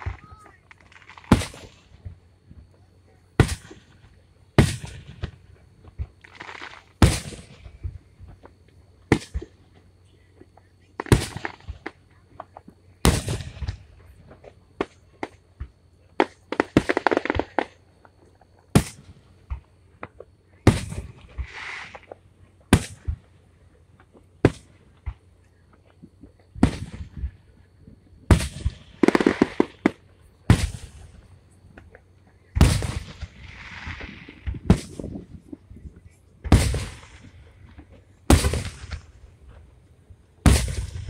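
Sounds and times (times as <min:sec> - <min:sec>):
firework explosions booming: 0:00.0 - 0:41.0
hissing crackle: 0:00.0 - 0:41.0.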